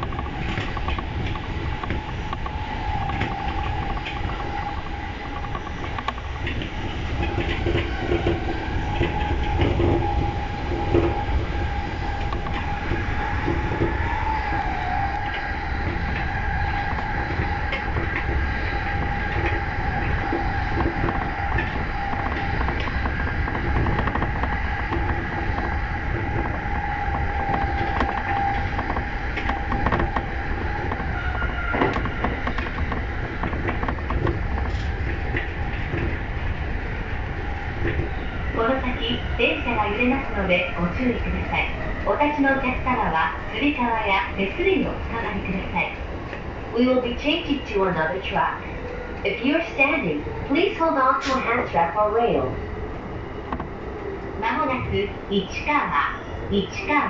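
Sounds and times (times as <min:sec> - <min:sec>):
electric train rumble and whine: 0:00.0 - 0:57.0
wheels clicking over rail joints: 0:00.0 - 0:57.0.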